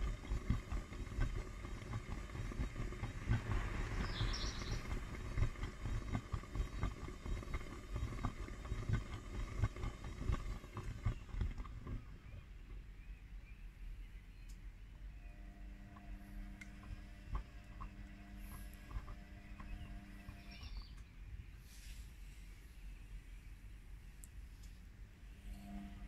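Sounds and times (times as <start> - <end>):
washing machine motor whine: 0.0 - 13.0, 14.8 - 21.7, 23.6 - 26.0.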